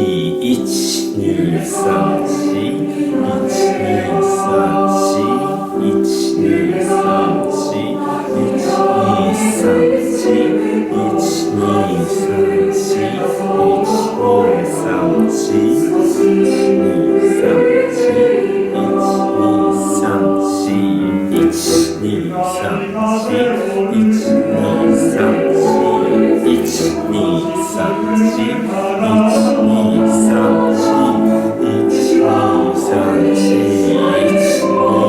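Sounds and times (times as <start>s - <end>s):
choir singing: 0.0s - 35.0s.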